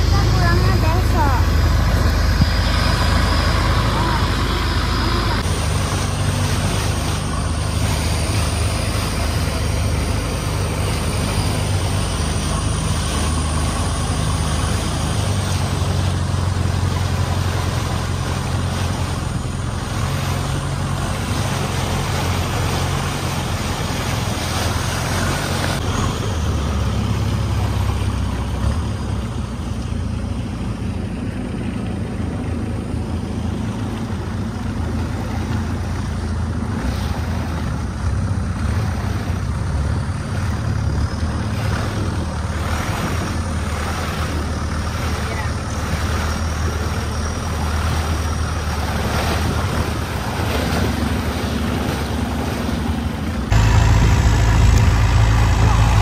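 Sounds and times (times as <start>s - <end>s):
boat engine drone: 0.0s - 56.0s
rushing water noise: 0.0s - 56.0s.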